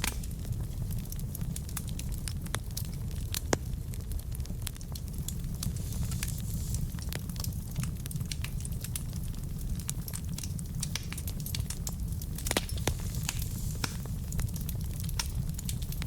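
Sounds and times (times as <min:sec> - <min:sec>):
burning logs crackling and popping: 0:00.0 - 0:16.0
fire flames rumbling: 0:00.0 - 0:16.0.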